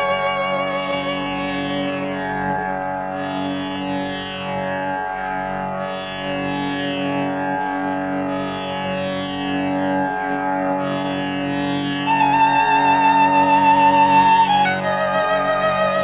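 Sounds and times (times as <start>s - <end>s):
steady drone: 0.0s - 16.0s
sustained melody with vibrato: 0.0s - 16.0s.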